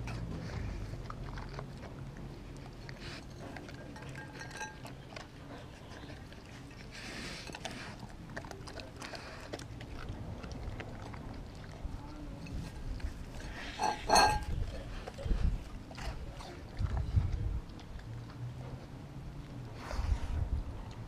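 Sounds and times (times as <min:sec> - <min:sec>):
dog licking and chewing food: 0:00.0 - 0:19.8.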